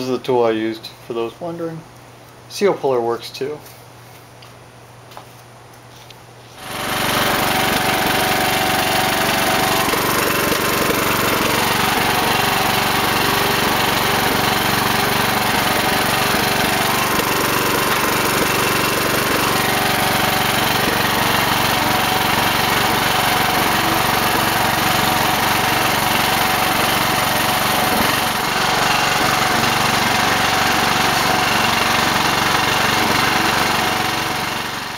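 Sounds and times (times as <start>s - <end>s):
riding mower engine running: 6.6s - 34.9s.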